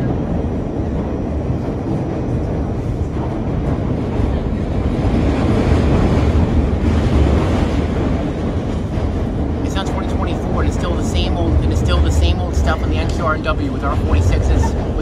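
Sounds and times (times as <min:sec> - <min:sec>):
subway train wheels rumbling on rails: 0:00.0 - 0:15.0.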